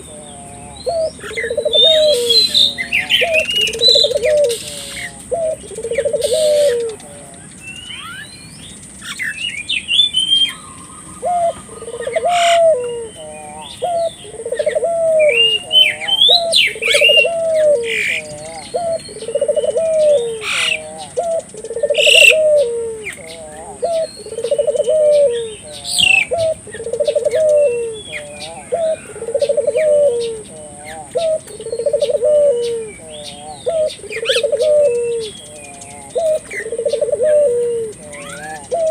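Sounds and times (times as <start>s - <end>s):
dove cooing: 0.0s - 8.1s, 10.1s - 38.9s
small birds chirping: 0.0s - 38.9s.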